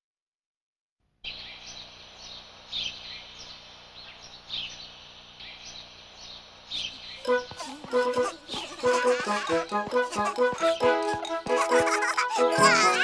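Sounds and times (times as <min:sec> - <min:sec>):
outdoor ambience: 0:01.0 - 0:13.0
birds chirping: 0:01.2 - 0:13.0.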